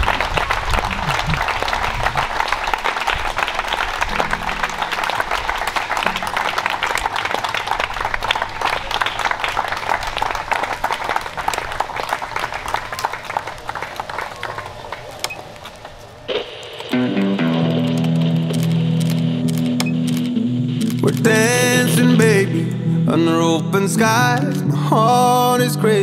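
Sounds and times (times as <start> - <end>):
audience applauding: 0.0 - 22.4.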